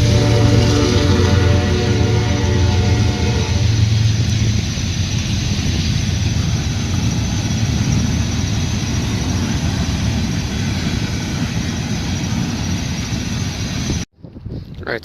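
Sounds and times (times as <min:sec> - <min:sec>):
freight train rumbling past: 0:00.0 - 0:14.1
rain hissing: 0:00.0 - 0:14.1.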